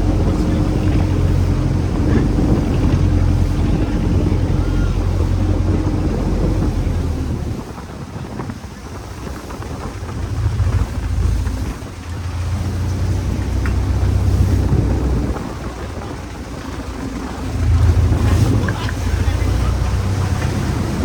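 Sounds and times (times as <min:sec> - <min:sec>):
boat engine humming: 0:00.0 - 0:21.0
wind noise on microphone: 0:00.0 - 0:21.0.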